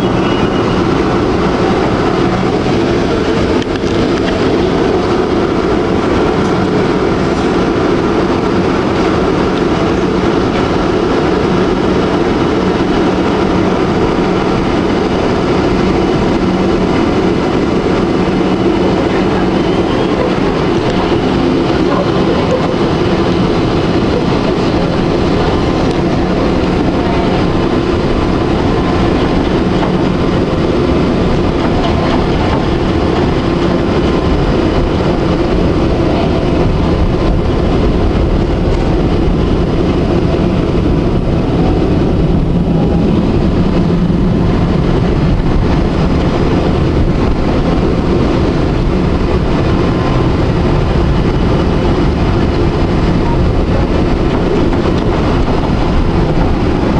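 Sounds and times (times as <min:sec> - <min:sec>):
electric tram rolling on rails: 0:00.0 - 0:56.9.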